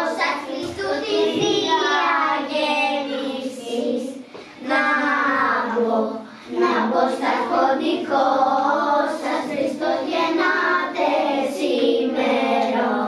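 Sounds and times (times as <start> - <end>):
children singing carol: 0.0 - 13.0.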